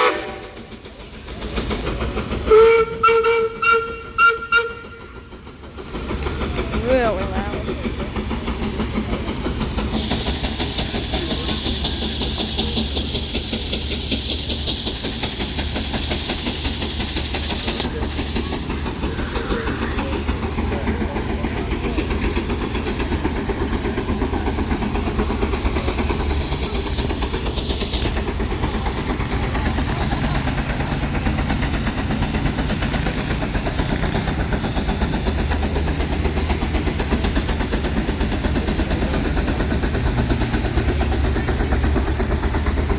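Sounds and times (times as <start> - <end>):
loud steam hiss: 0.0 - 42.9
steam engine exhaust beating: 0.0 - 42.9.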